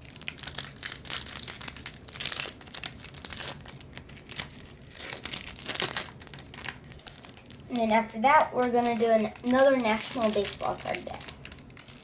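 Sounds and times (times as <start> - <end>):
wrapper crinkling and tearing: 0.0 - 12.0.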